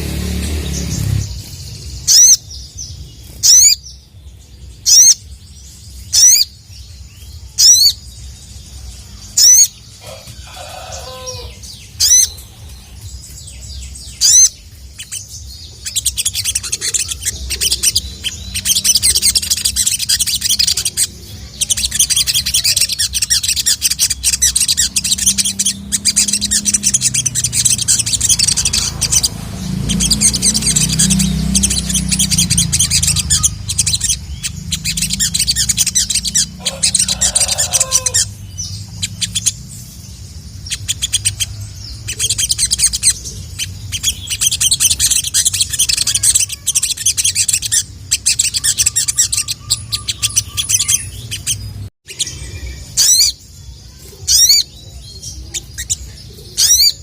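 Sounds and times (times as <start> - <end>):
sunbird high twittering song: 0.0 - 57.0.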